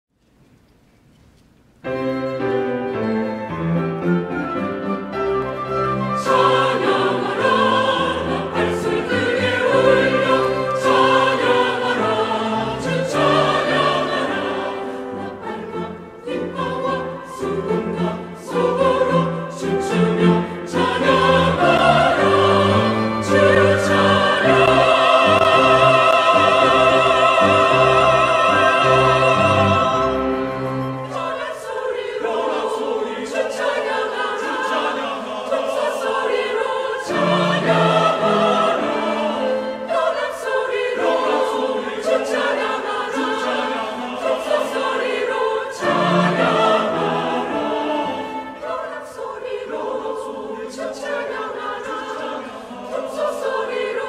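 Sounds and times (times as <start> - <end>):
piano: 1.7 - 54.0
choir singing a hymn: 1.8 - 54.0
violin: 1.8 - 54.0
cello: 1.9 - 54.0.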